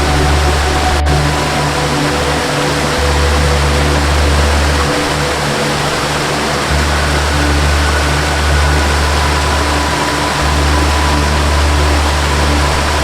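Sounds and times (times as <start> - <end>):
soft ambient melody: 0.0 - 13.0
waterfall rushing: 0.0 - 13.0.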